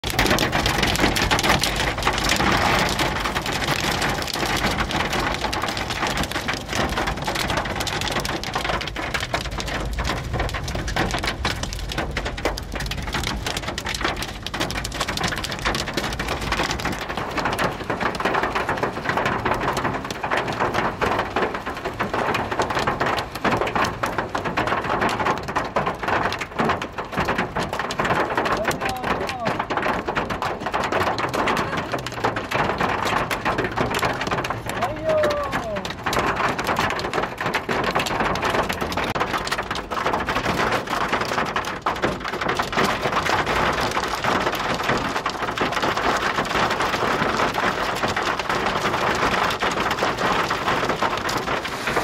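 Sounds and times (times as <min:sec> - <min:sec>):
heavy rain pouring on a road: 0:00.0 - 0:52.0.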